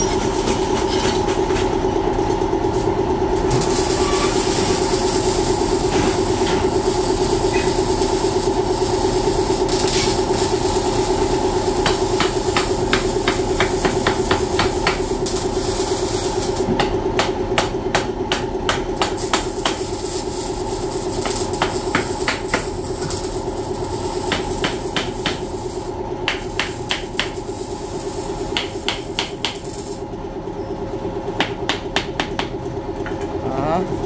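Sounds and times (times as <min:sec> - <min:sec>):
steady hum: 0:00.0 - 0:34.0
welding arc crackling and hissing: 0:02.7 - 0:30.1.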